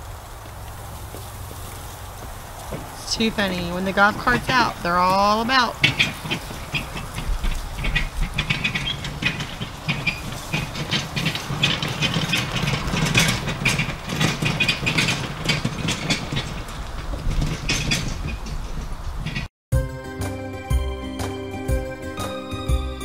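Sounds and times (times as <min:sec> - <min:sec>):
golf cart motor hum: 0:00.0 - 0:19.5
trailer rattling and clattering: 0:00.0 - 0:23.0.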